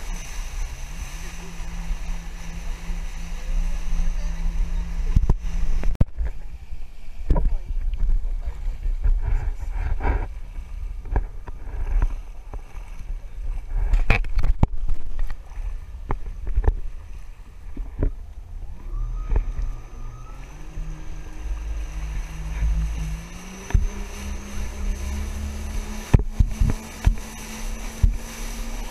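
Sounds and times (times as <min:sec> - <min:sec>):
hull slapping water: 0:00.0 - 0:28.9
jet ski engine rumble: 0:00.0 - 0:28.9.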